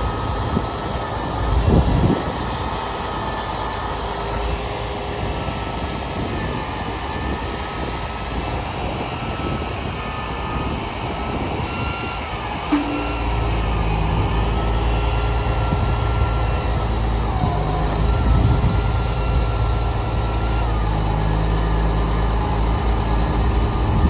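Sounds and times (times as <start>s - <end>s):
diesel truck engine running: 0.0s - 24.0s
faint whine: 0.0s - 24.0s.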